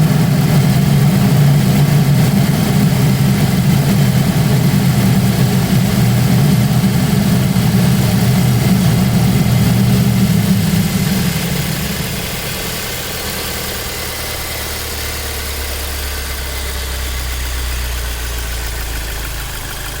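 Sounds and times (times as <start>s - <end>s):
car engine idling: 0.0s - 20.0s
loud low hum: 0.0s - 20.0s.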